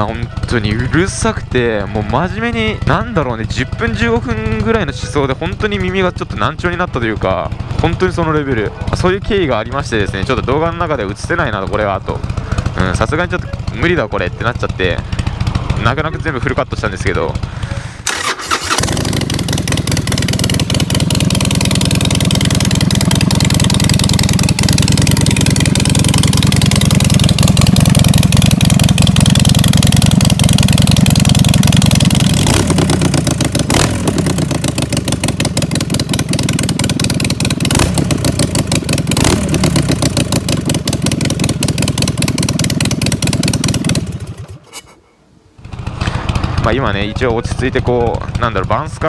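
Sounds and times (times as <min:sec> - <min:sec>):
motorcycle engine idling and revving: 0:00.0 - 0:44.9, 0:45.5 - 0:49.0.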